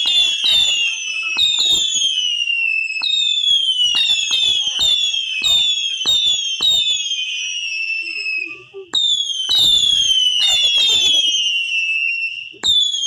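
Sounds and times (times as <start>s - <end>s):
fireworks cracking: 0.0s - 13.0s
whistling fireworks: 0.0s - 13.0s.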